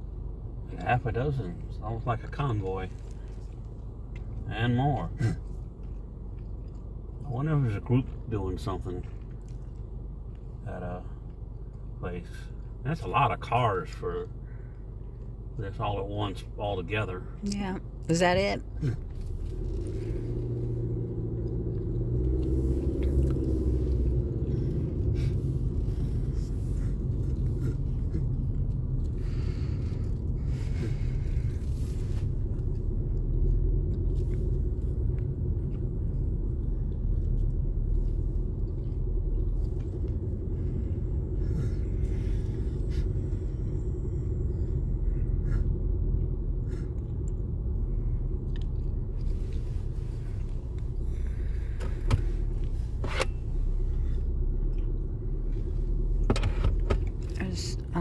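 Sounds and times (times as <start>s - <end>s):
vehicle engine rumble from inside: 0.0s - 58.0s.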